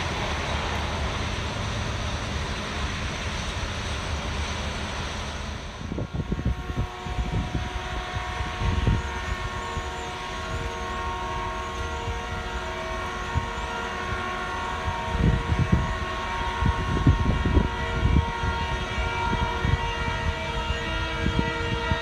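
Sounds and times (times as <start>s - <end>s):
ballast-cleaning machine droning: 0.0s - 22.0s
wind buffeting microphone: 0.0s - 22.0s.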